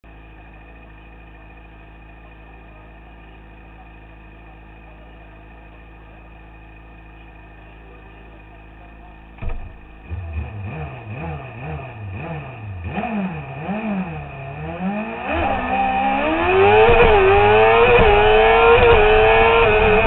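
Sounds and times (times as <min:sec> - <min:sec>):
motorcycle engine idling: 0:00.0 - 0:20.0
motorcycle engine revving: 0:00.1 - 0:20.0.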